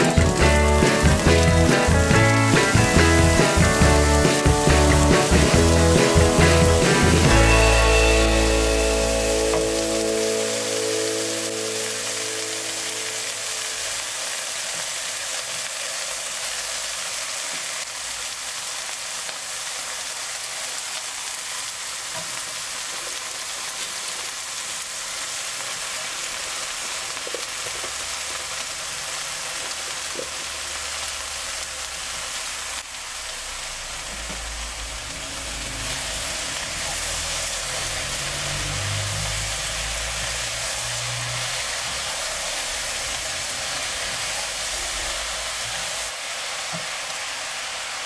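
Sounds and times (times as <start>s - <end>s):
noodles sizzling in a pan: 0.0s - 48.0s.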